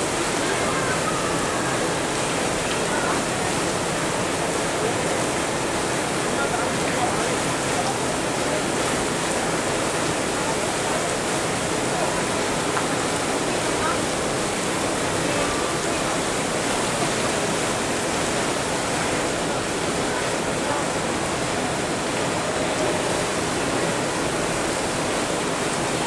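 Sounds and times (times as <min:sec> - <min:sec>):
water pouring and splashing: 0:00.0 - 0:26.0.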